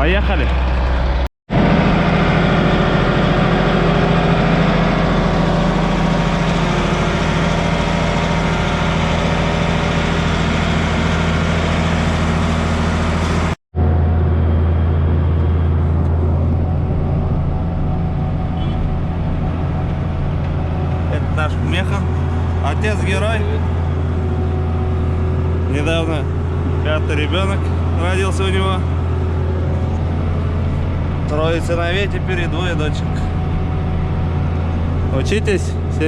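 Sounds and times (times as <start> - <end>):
diesel farm machinery running: 0.0 - 36.0
low heavy drone: 0.0 - 36.0.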